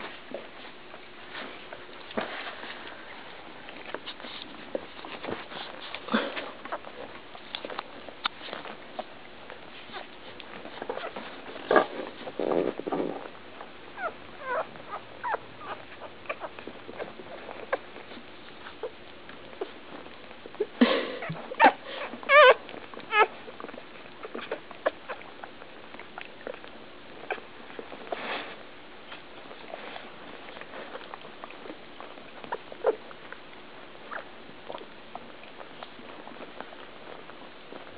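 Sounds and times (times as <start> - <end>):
soft shuffling: 0.0 - 37.9
puppies squeaking and whimpering: 4.0 - 8.8, 9.8 - 33.4, 34.0 - 37.9.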